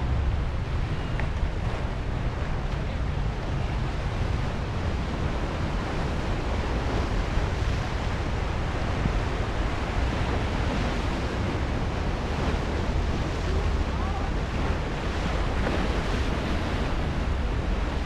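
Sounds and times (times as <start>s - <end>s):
surf breaking over rocks: 0.0s - 18.0s
wind rumble on microphone: 0.0s - 18.0s.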